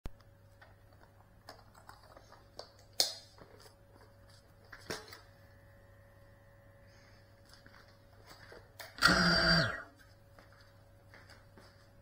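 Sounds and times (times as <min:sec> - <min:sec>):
faint steady hum: 0:00.1 - 0:12.0.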